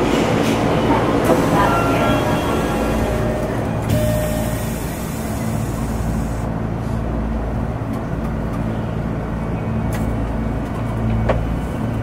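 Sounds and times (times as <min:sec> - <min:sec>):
train wheels and motors rumbling: 0:00.0 - 0:12.0.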